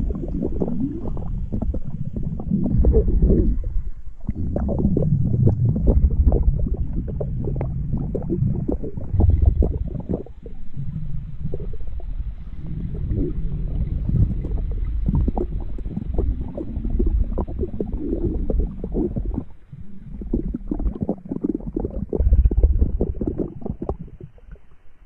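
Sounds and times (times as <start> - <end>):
stomach growling gurgles: 0.0 - 24.8.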